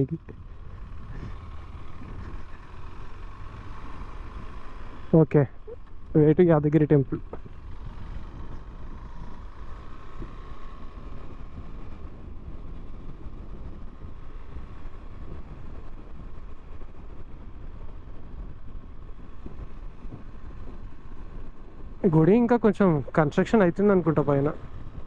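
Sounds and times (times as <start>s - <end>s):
motorcycle engine and road rumble: 0.0s - 25.0s
wind buffeting microphone: 0.0s - 25.0s.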